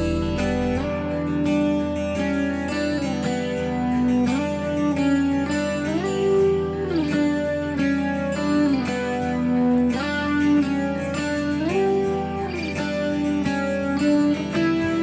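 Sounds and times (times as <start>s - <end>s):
sliding held-note melody: 0.0s - 15.0s.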